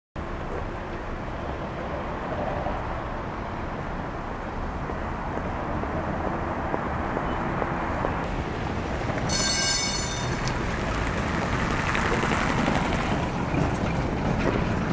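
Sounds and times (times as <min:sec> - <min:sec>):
cars passing on street: 0:00.2 - 0:14.9.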